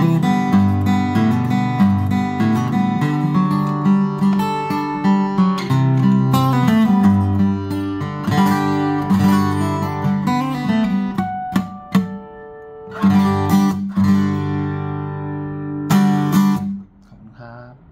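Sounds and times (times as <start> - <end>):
acoustic guitar fingerpicked: 0.0 - 17.9.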